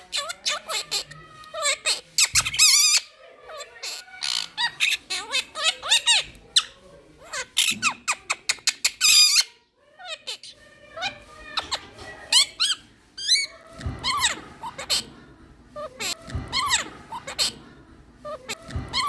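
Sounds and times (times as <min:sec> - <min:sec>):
parrot squawking and chirping: 0:00.0 - 0:15.1, 0:15.8 - 0:17.6, 0:18.2 - 0:19.0.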